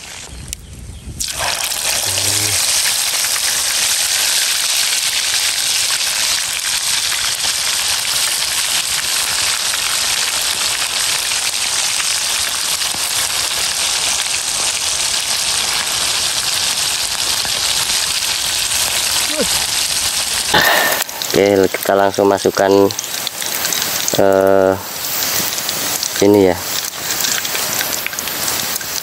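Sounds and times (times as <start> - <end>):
hot oil sizzling: 0.0 - 29.0.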